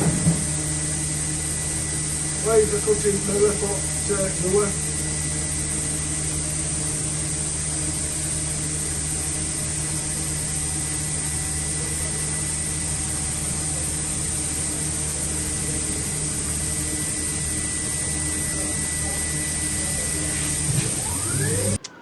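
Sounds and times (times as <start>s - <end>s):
machine drone with high whine: 0.0s - 22.0s.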